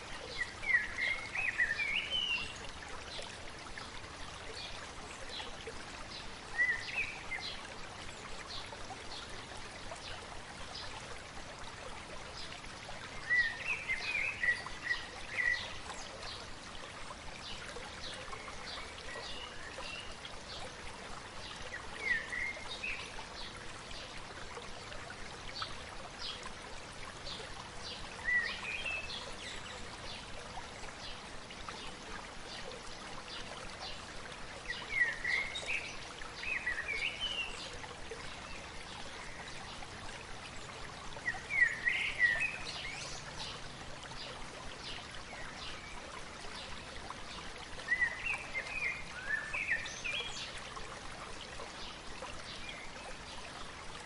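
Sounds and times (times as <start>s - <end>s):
stream babbling: 0.0s - 54.0s.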